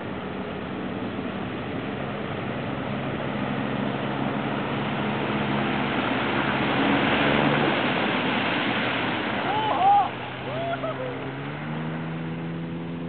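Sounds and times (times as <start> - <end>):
boat hull rushing through spray: 0.0 - 13.0.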